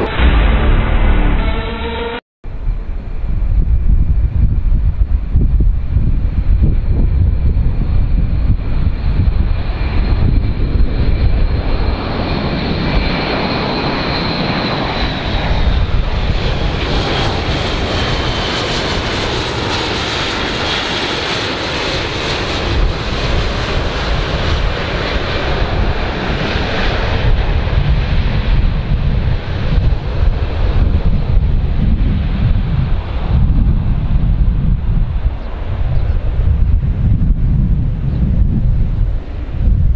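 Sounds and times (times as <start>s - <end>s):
airplane engines running: 0.0s - 39.9s.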